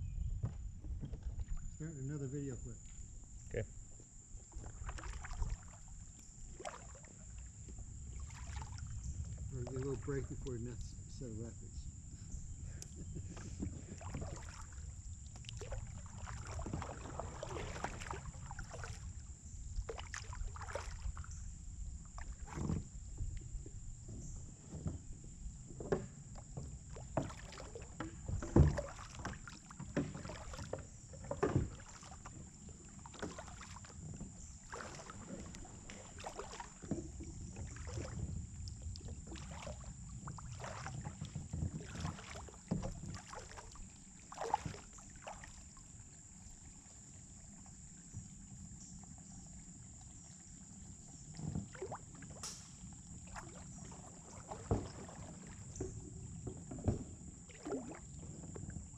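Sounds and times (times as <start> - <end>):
paddle strokes splashing water: 0.0 - 58.9.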